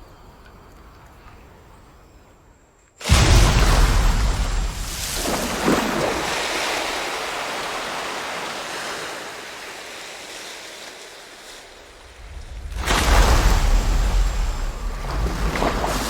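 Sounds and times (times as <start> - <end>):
churning water rushing: 3.0 - 16.0
splash into river water: 3.0 - 16.0.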